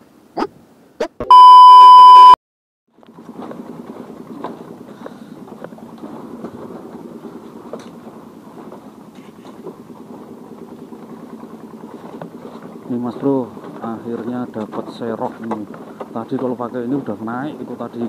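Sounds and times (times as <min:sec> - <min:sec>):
bamboo creaking and clattering: 0:02.9 - 0:18.0
footsteps on bamboo slats: 0:03.0 - 0:17.7.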